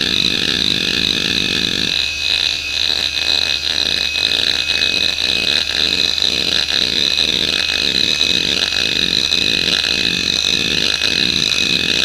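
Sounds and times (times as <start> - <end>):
hard drive seek chatter: 0.0 - 12.0
spinning drive whine: 0.0 - 12.0.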